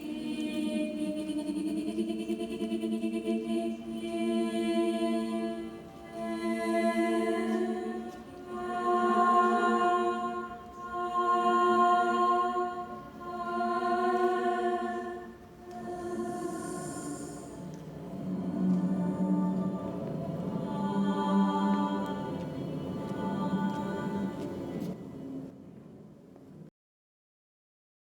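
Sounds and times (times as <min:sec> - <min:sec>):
choir-like held chords: 0:00.0 - 0:25.6.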